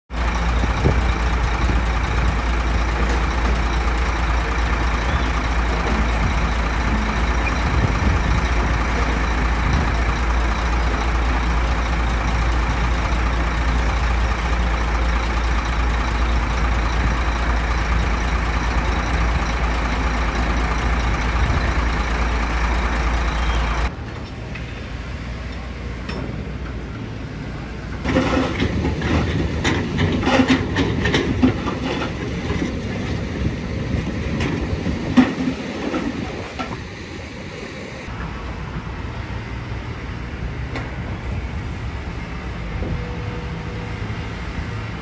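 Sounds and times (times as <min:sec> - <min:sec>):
diesel machinery rumbling: 0:00.1 - 0:45.0.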